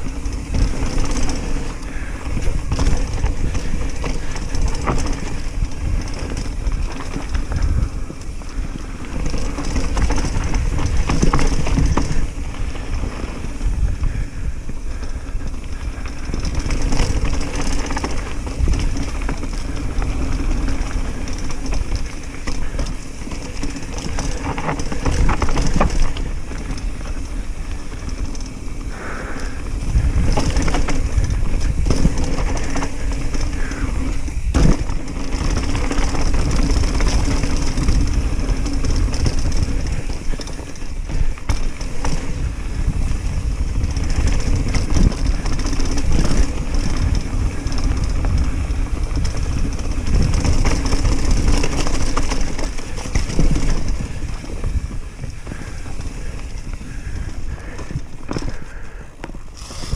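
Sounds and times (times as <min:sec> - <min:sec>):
bike rattling over bumps: 0:00.0 - 0:59.9
bike tyres rolling over dirt: 0:00.0 - 0:59.9.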